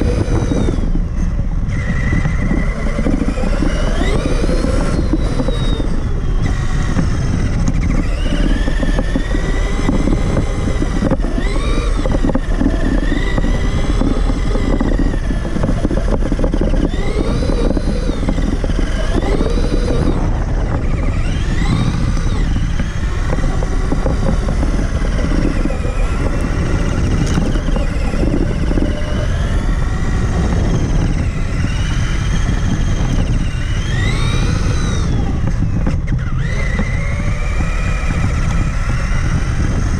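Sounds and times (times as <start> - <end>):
electric motor whining: 0.0 - 39.9
tyres and chassis rumbling: 0.0 - 39.9.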